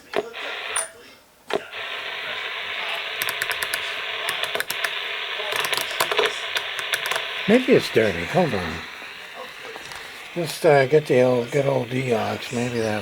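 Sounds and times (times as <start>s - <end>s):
radio switch click: 0.0s - 10.7s
radio receiver static: 0.0s - 13.0s
sharp crackles: 1.6s - 13.0s.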